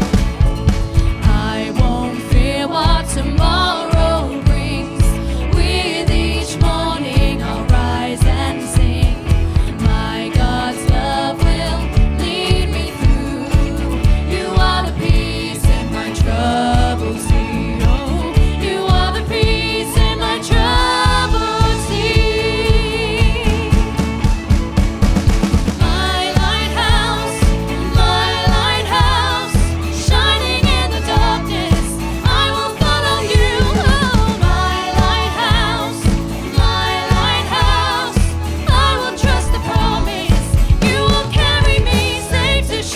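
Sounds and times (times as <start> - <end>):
worship song with band: 0.0 - 42.9.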